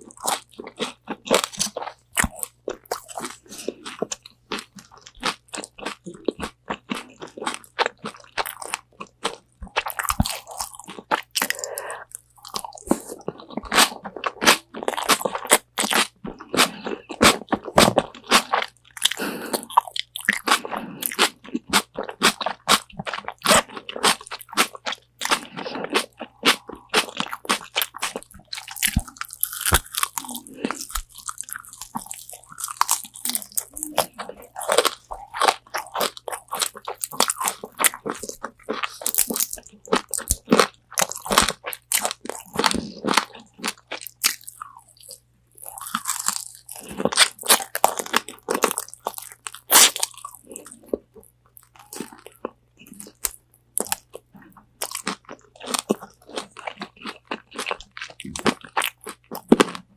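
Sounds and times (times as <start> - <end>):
crunching fried chicken: 0.0 - 59.9
wet chewing: 0.0 - 59.9.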